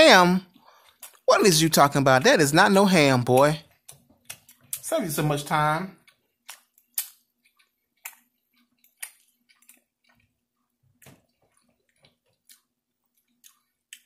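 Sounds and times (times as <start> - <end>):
wet chewing and mouth clicks: 0.5 - 4.9, 6.0 - 14.0.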